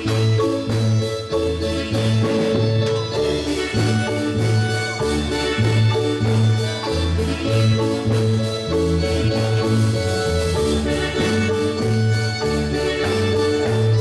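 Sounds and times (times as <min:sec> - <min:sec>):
deep bass line: 0:00.0 - 0:14.0
marimba band playing dance music: 0:00.0 - 0:14.0.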